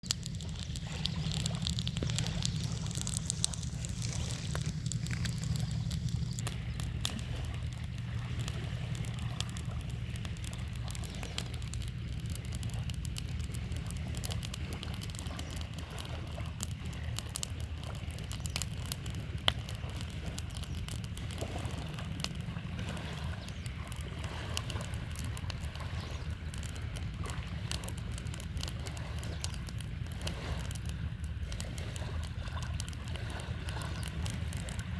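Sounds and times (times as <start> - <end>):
campfire crackling and popping: 0.0 - 34.9
river water flowing: 0.0 - 34.9.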